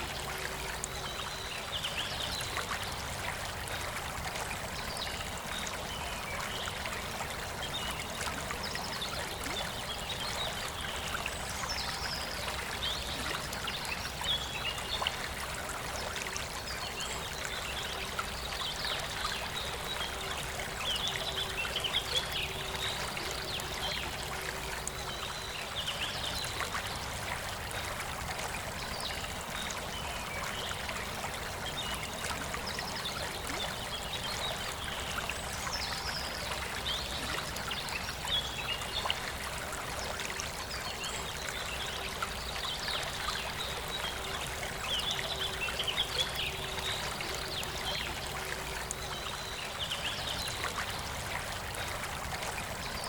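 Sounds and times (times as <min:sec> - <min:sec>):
river flowing and trickling: 0:00.0 - 0:53.0.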